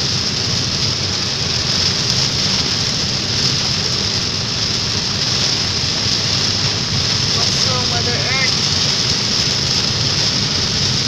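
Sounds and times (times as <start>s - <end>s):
car road rumble: 0.0s - 11.0s
heavy rain on car roof: 0.0s - 11.0s.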